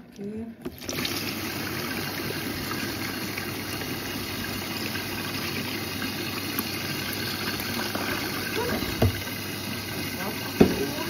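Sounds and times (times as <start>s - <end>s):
water rushing into washing machine: 0.1s - 11.0s.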